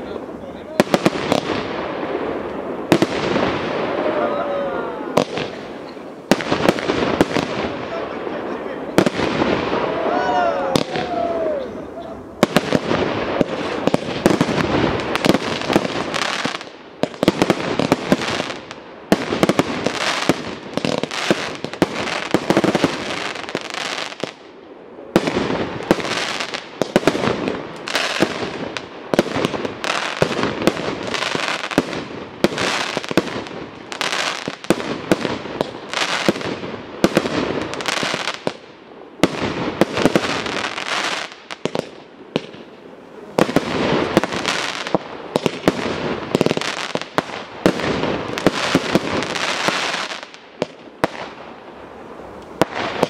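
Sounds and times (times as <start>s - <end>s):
fireworks crackling and popping: 0.0s - 53.0s
fireworks pops and bangs: 0.6s - 4.1s, 5.1s - 9.8s, 12.4s - 51.6s, 52.4s - 53.0s.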